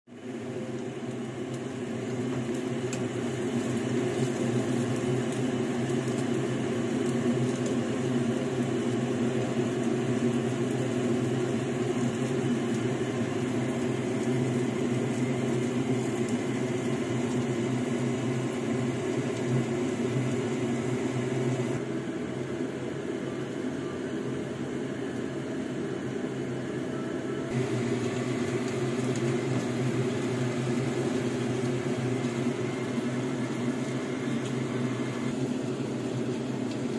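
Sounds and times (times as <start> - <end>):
kitchen fan motor whirring: 0.1 - 36.9.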